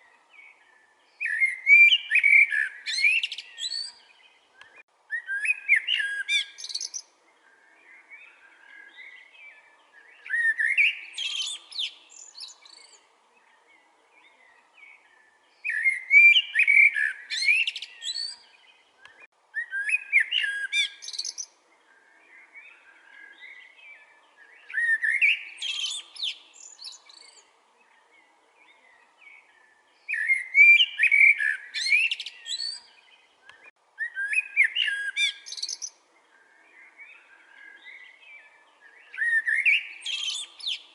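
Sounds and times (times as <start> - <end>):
blackbird singing: 0.0 - 40.9.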